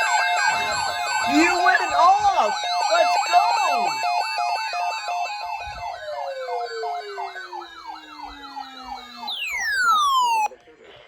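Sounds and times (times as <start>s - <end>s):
siren winding down: 0.0s - 10.5s
sirens wailing: 0.0s - 10.5s
two-tone siren: 0.0s - 10.5s.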